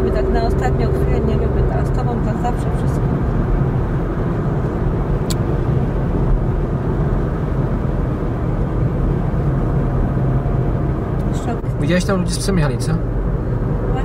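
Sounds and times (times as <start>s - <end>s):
car engine hum: 0.0s - 14.0s.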